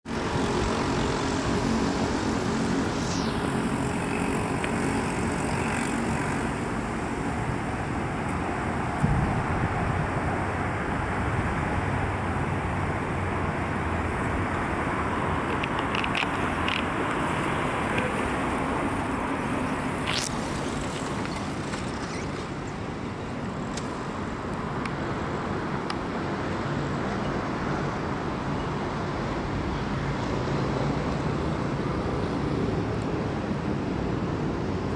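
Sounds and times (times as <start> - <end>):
city road traffic hum: 0.0 - 34.9.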